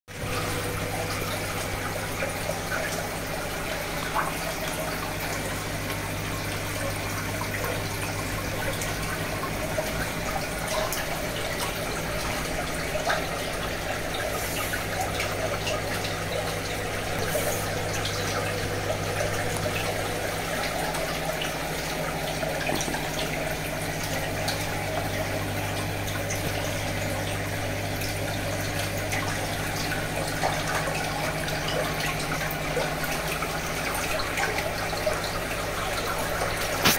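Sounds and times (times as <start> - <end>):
low mechanical hum: 0.1 - 36.9.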